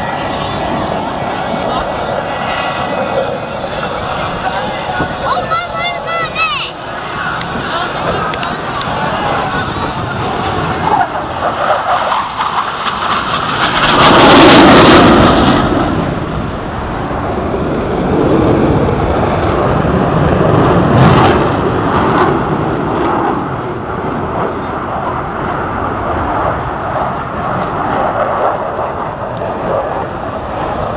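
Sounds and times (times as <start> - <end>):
jets passing overhead: 0.0 - 30.9.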